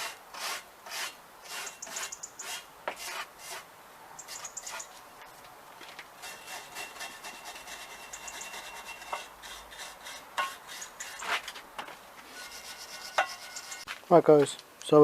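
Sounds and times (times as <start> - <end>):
metal tool scraping rusted iron: 0.0 - 5.4, 6.2 - 13.9.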